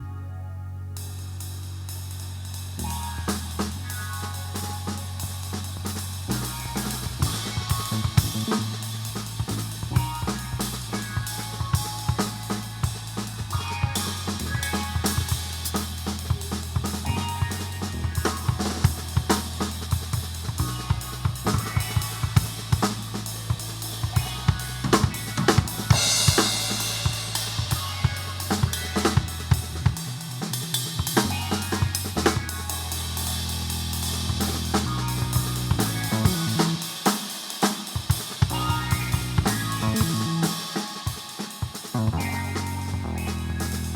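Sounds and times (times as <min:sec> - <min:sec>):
bass line of low notes: 0:00.0 - 0:30.0, 0:31.2 - 0:36.8, 0:38.5 - 0:40.4, 0:42.0 - 0:43.9
cymbal wash: 0:01.1 - 0:43.9
drum kit groove: 0:01.9 - 0:43.9.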